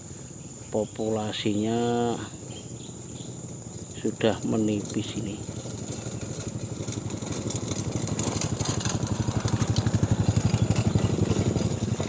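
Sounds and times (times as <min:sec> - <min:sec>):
small motorcycle engine running: 0:01.7 - 0:12.0.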